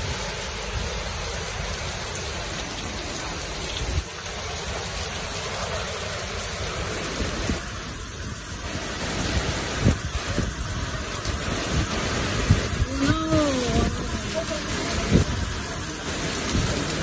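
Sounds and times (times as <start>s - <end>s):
heavy rain on street: 0.0s - 17.0s.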